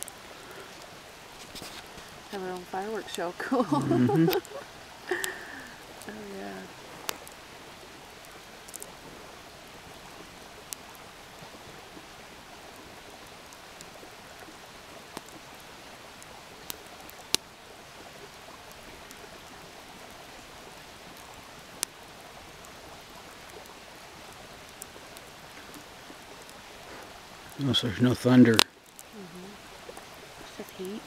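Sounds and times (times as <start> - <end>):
outdoor night ambience hiss: 0.0 - 31.0.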